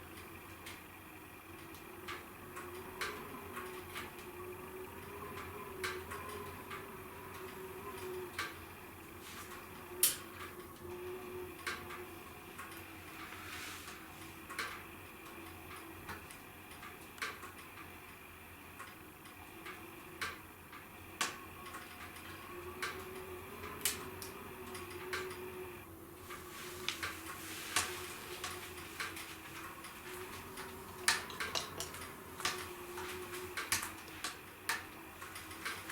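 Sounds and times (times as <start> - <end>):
faint steady hiss: 0.0 - 35.9
wood fire crackling: 0.0 - 35.9.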